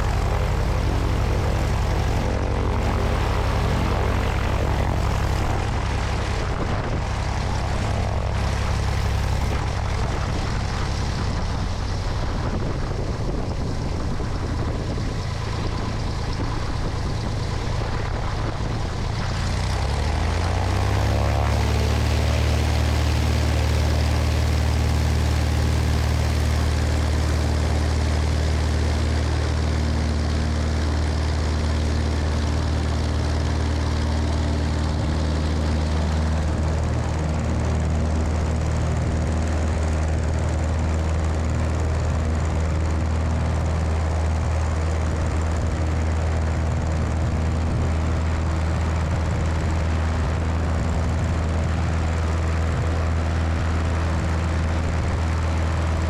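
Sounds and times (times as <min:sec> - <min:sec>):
propeller plane engine droning: 0:00.0 - 0:56.0
wind rushing over microphone: 0:00.0 - 0:56.0.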